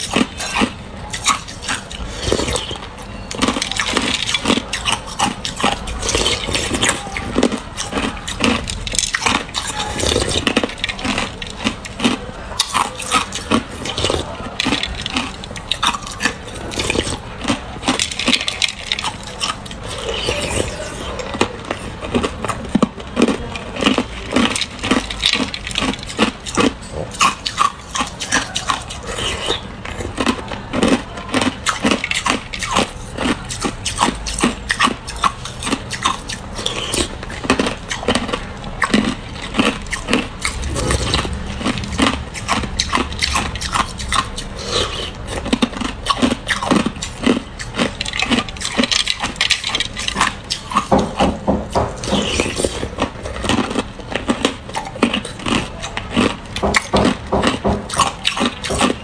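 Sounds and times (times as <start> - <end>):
ice cubes crunched between teeth: 0.0 - 51.3.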